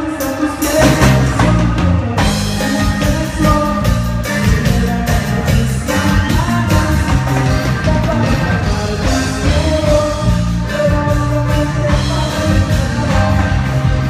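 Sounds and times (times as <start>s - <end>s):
band playing a song: 0.0s - 14.0s
bass line: 0.0s - 14.0s
person singing: 0.0s - 14.0s.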